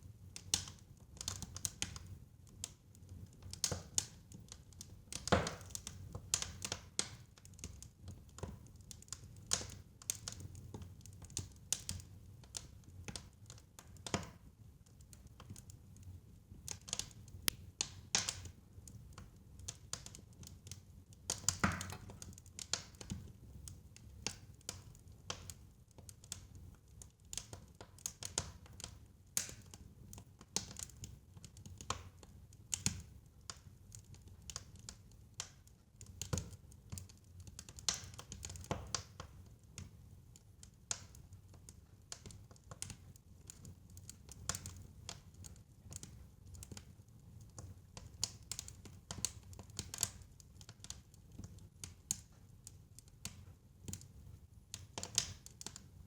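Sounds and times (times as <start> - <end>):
fire crackling and popping: 0.3 - 56.0.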